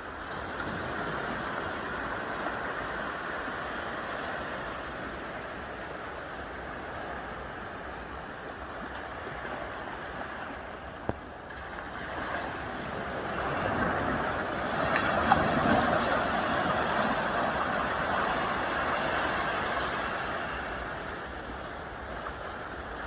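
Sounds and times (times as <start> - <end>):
sea waves washing: 0.0 - 23.0.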